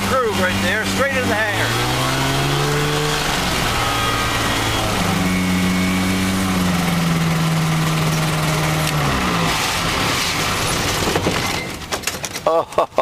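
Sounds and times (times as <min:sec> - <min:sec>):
aircraft engine and propeller: 0:00.0 - 0:11.2.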